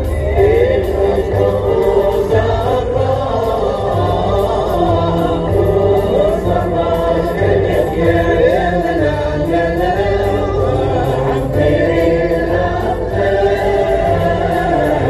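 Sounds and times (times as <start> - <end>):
chorus singing: 0.0 - 15.0
instrumental accompaniment: 0.0 - 15.0.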